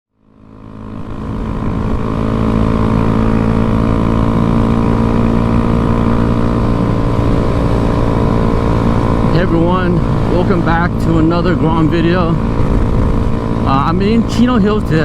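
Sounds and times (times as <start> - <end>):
motorcycle engine running: 0.1 - 15.0.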